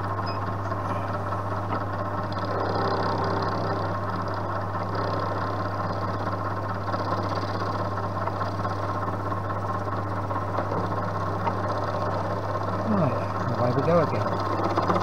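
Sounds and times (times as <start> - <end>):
milling machine motor hum: 0.0 - 15.0.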